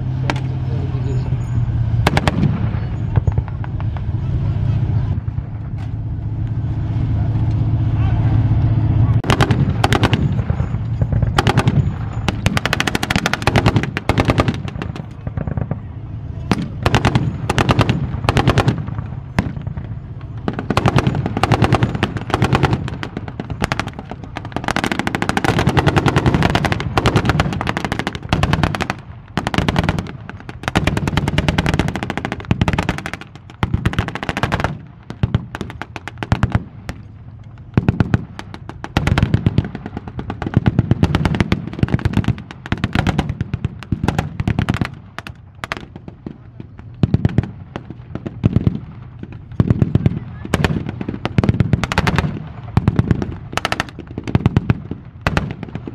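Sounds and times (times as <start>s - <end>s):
vehicle engines rumbling: 0.0s - 55.9s
rifle shots: 1.9s - 4.2s, 9.2s - 55.9s.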